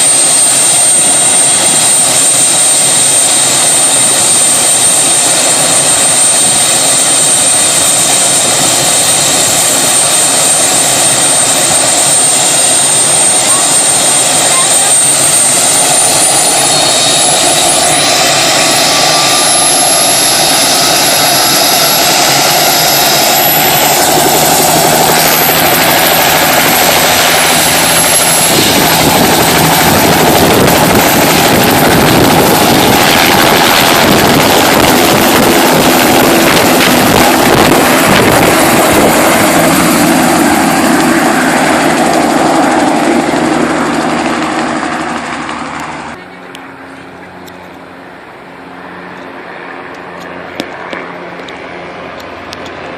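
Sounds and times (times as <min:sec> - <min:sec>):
high whine rising in pitch: 0:00.0 - 0:46.2
helicopter noise: 0:00.0 - 0:52.9.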